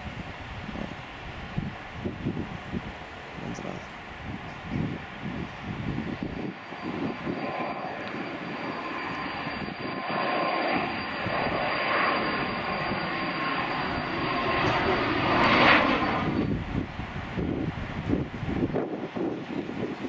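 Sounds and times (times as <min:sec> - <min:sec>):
jet engine roar with whine: 0:00.0 - 0:20.0.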